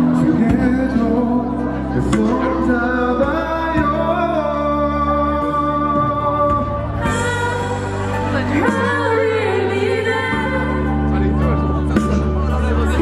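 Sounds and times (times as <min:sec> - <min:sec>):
man and woman singing in harmony: 0:00.0 - 0:12.1
low bass line: 0:00.0 - 0:13.0.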